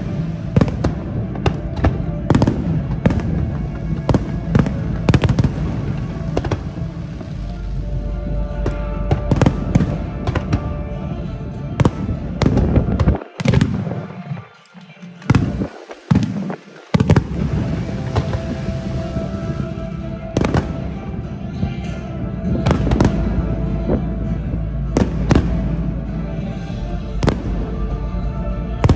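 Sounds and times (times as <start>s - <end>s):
fireworks bursting: 0.0s - 7.8s, 8.6s - 11.0s, 11.8s - 22.0s, 22.6s - 28.0s
music: 0.0s - 28.9s.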